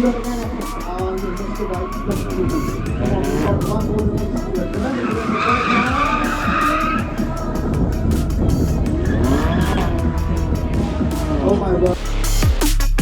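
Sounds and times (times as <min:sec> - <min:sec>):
tyres squealing: 0:00.0 - 0:12.0
car engine revving: 0:00.0 - 0:12.8.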